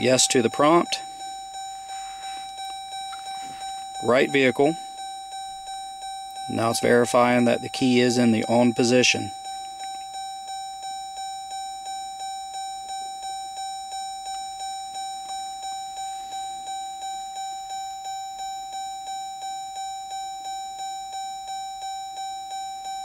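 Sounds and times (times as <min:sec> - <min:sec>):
car warning chime dings: 0:00.0 - 0:23.0.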